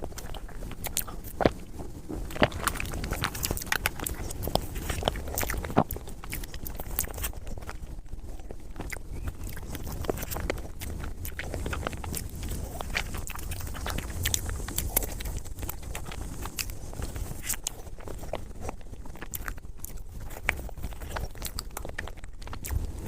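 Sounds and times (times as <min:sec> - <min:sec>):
lip smacking and mouth clicks: 0:00.0 - 0:23.0
wet chewing: 0:00.0 - 0:23.0.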